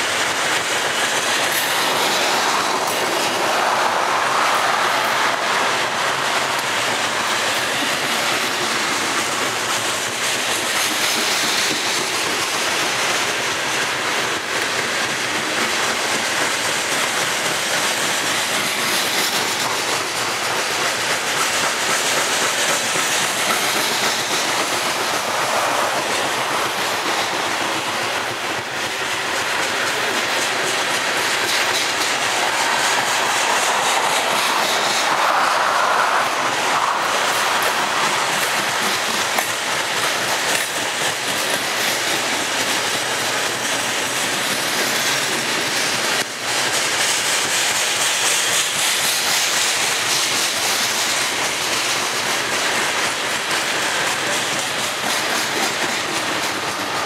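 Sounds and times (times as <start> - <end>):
train wheels clacking on rail joints: 0.0 - 57.0.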